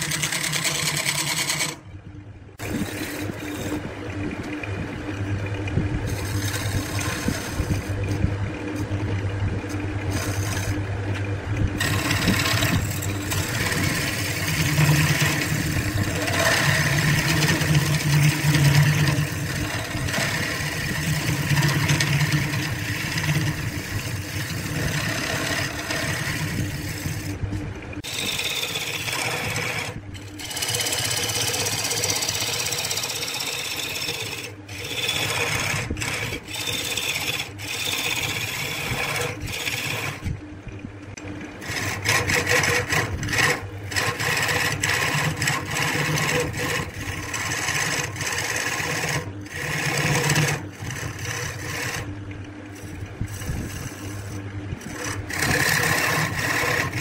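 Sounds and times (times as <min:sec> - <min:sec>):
wood lathe motor hum: 0:00.0 - 0:01.8, 0:02.6 - 0:40.4, 0:41.2 - 0:57.0
chisel scraping spinning wood: 0:00.0 - 0:01.9, 0:02.6 - 0:40.4, 0:41.2 - 0:57.0.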